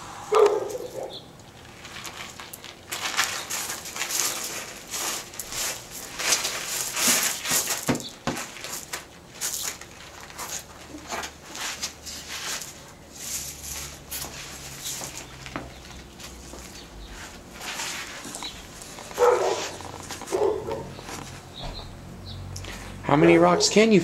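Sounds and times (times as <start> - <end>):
gravel crunching and rattling: 1.4 - 22.8.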